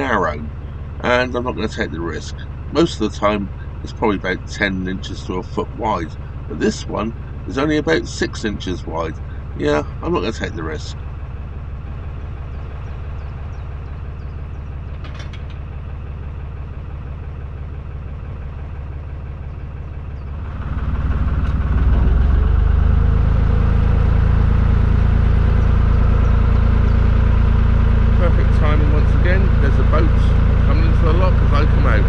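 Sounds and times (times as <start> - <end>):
boat diesel engine running: 0.0 - 32.0.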